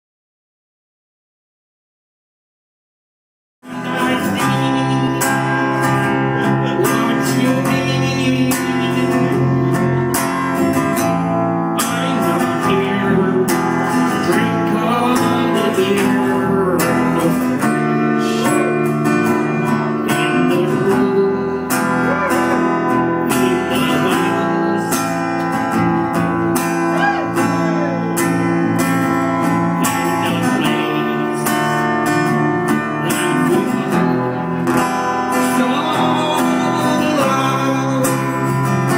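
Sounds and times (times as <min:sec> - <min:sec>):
strummed acoustic guitar: 0:03.6 - 0:38.9
electric bass: 0:03.7 - 0:38.9.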